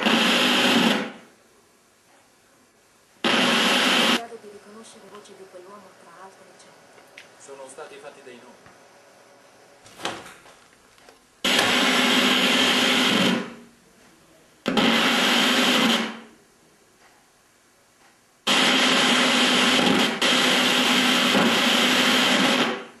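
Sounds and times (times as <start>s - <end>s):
television static hiss: 0.0s - 23.0s.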